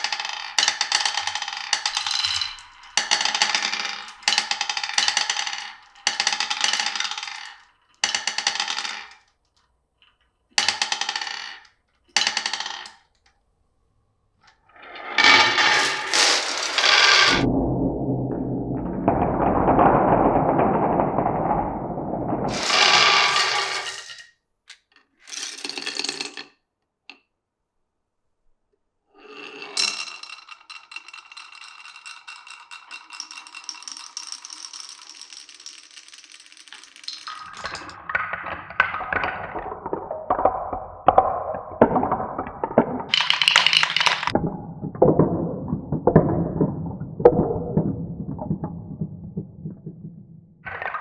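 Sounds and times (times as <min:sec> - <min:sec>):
marbles rolling and clacking: 0:00.0 - 0:09.3, 0:10.6 - 0:13.0, 0:14.9 - 0:26.6, 0:29.4 - 0:51.0.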